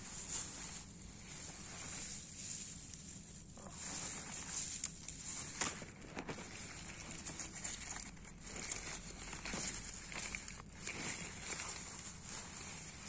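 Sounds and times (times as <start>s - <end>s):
leaves and grass rustling: 0.0s - 13.0s.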